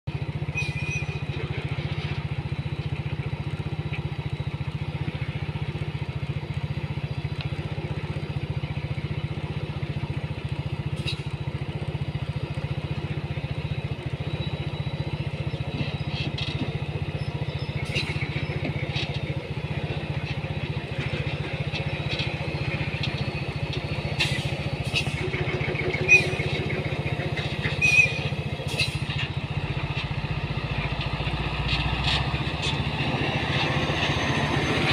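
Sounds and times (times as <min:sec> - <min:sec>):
engine rumbling: 0:00.0 - 0:34.9.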